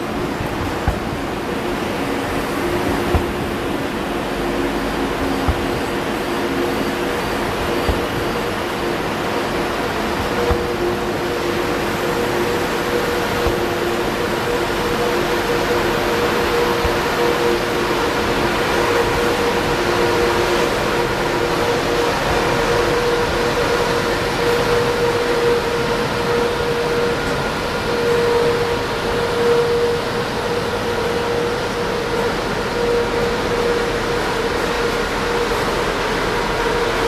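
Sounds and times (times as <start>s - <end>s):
electric train humming past: 0.0s - 37.0s.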